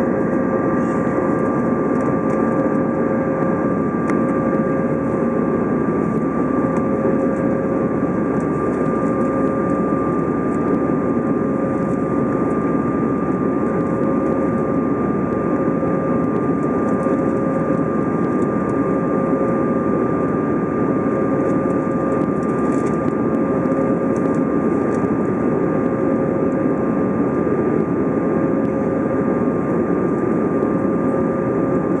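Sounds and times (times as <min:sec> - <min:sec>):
airplane cabin roar: 0:00.0 - 0:32.0
low pulsing hum: 0:00.0 - 0:32.0
steady high whine: 0:00.0 - 0:32.0.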